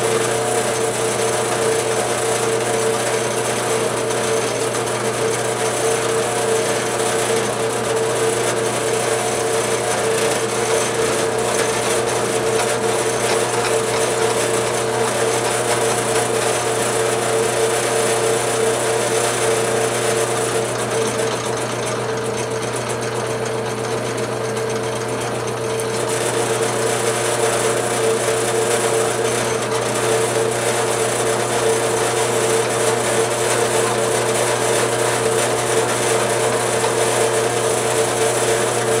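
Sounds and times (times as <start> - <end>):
drill press motor hum and whine: 0.0 - 39.0.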